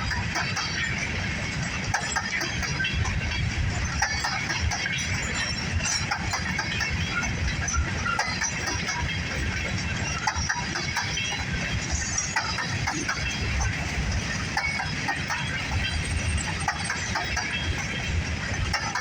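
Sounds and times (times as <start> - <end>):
train rumbling past: 0.0 - 19.0
wheels clicking over rail joints: 0.0 - 19.0.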